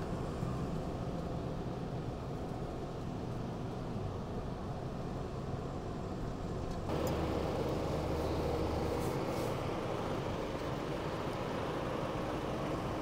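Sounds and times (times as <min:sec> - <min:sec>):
pickup engine and road rumble: 0:00.0 - 0:13.0.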